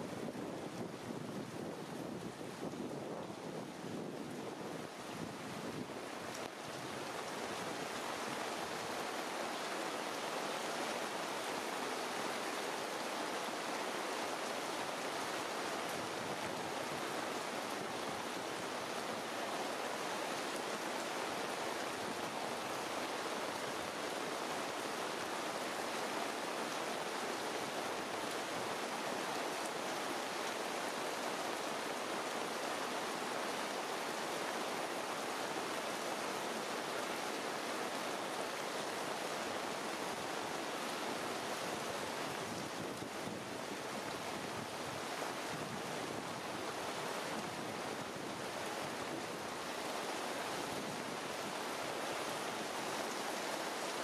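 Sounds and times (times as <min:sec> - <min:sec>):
rain falling in leafy trees: 0:00.0 - 0:54.0.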